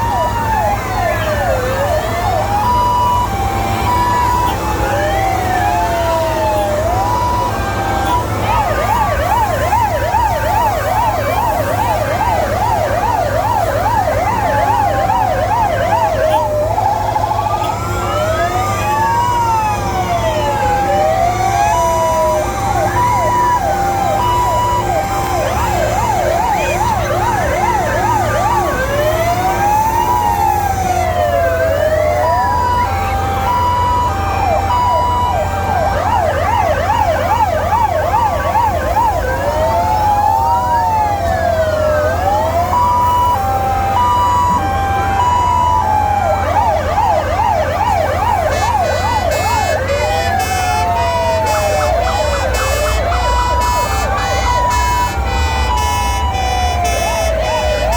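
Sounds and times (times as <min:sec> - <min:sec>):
fire engine sirens wailing: 0:00.0 - 0:57.9.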